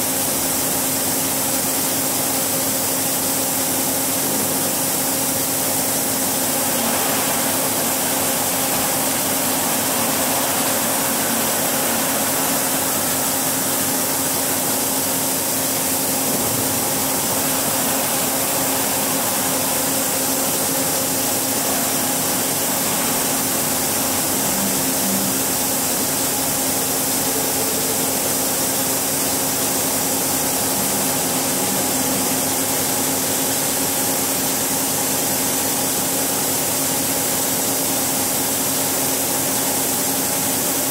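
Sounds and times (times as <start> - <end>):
machining center humming: 2.2 - 36.4.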